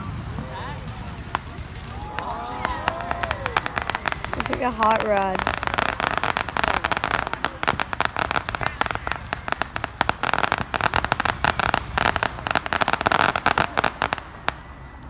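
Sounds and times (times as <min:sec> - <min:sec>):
fireworks hiss: 0:00.0 - 0:14.8
fireworks crackling: 0:00.0 - 0:15.0.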